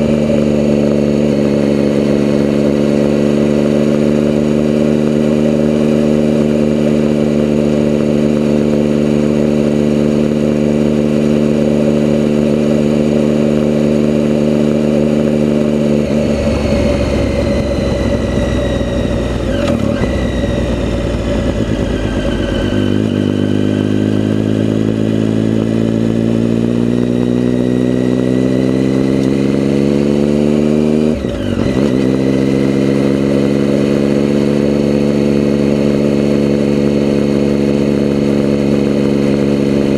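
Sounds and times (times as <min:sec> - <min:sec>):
vehicle engine accelerating: 0:00.0 - 0:39.9.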